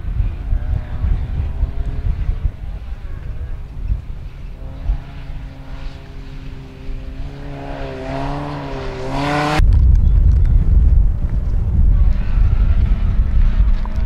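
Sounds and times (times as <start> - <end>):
car engine running hard: 0.0 - 9.6, 11.1 - 14.0
wind rumble on microphone: 0.0 - 14.0.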